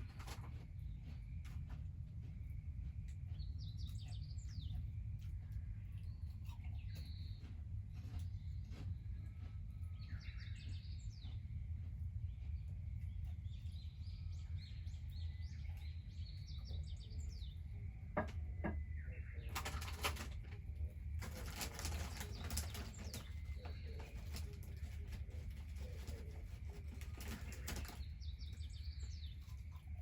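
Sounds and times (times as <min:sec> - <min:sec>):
crackling and rustling noise: 0:00.0 - 0:18.2, 0:19.4 - 0:30.0
small birds chirping: 0:00.0 - 0:30.0.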